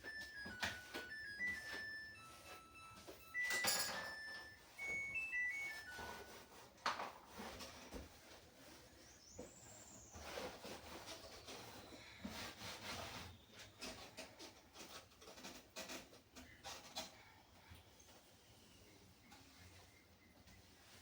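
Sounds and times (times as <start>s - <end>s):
faint rubbing and scraping: 4.1s - 21.0s.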